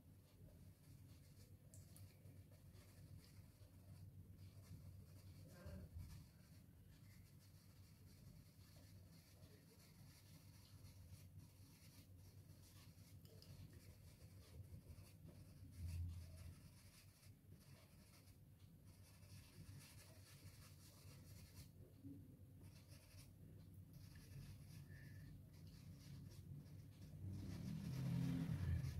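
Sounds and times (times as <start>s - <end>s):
pastel stick rubbing on paper: 0.2s - 21.8s, 22.6s - 28.9s.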